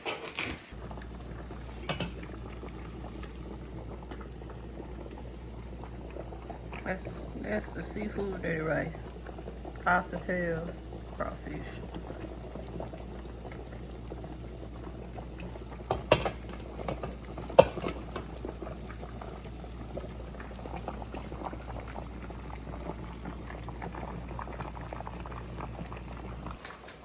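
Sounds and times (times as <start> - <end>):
pot of rice bubbling: 0.7 - 26.7.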